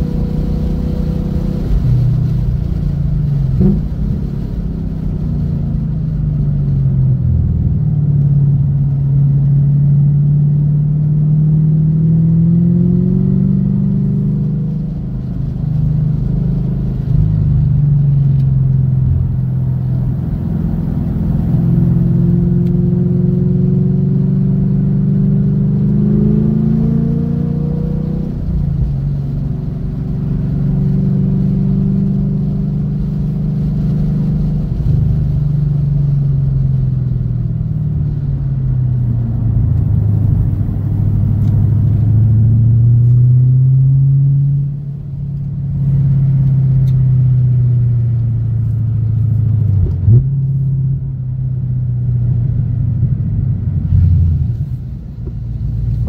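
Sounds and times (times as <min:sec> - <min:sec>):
car engine at low revs: 0:00.0 - 0:56.0.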